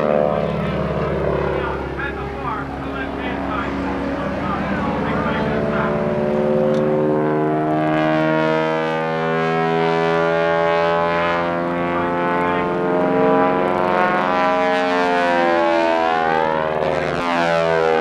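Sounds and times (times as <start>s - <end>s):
propeller airplane flying by: 0.0s - 18.0s.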